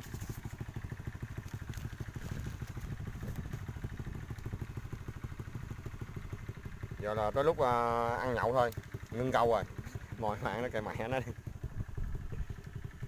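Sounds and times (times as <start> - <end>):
small engine puttering: 0.0 - 13.0.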